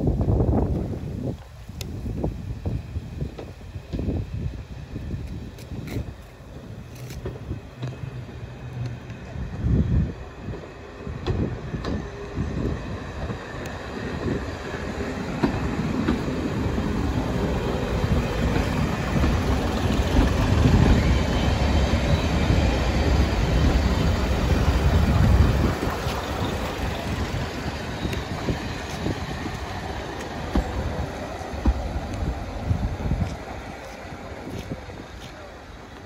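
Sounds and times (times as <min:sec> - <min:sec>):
diesel train engines and wheels rumbling: 0:00.0 - 0:36.0.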